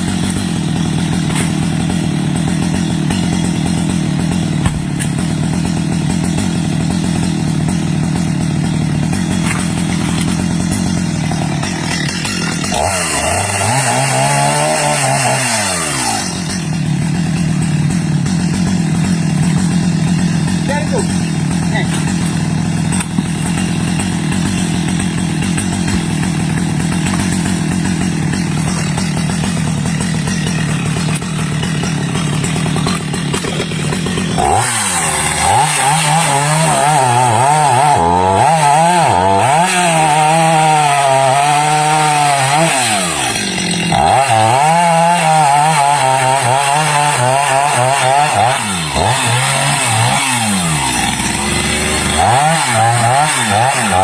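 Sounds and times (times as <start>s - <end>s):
chainsaw sawing into wood: 0.0s - 54.0s.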